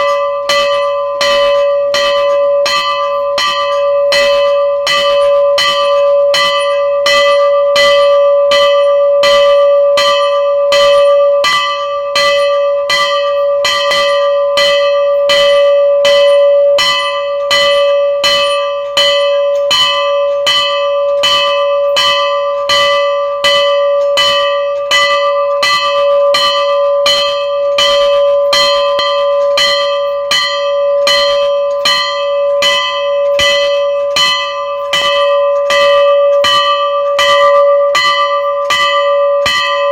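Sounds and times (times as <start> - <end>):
metal temple bell ringing: 0.0 - 39.9.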